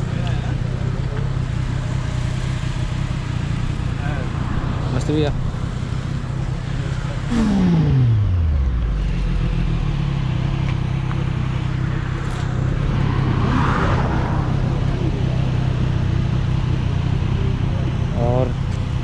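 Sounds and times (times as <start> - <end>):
motorcycle engine idling: 0.0 - 13.4, 14.4 - 19.0.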